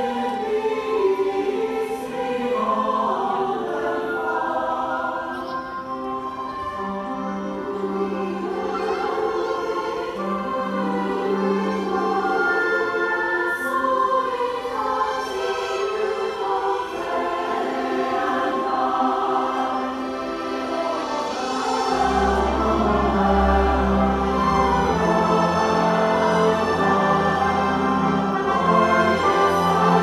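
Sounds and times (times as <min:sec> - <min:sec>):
choir singing with orchestra: 0:00.0 - 0:30.0.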